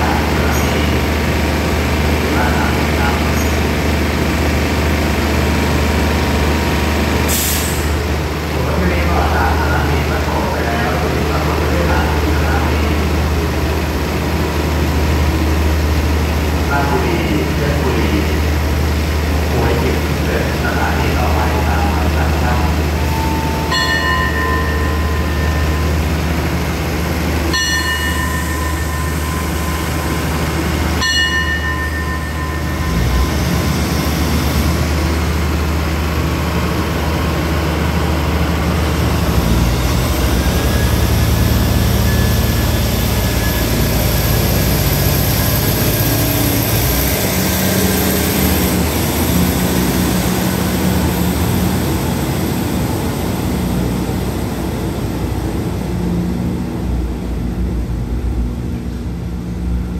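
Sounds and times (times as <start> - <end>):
diesel train engines accelerating: 0.0 - 59.9.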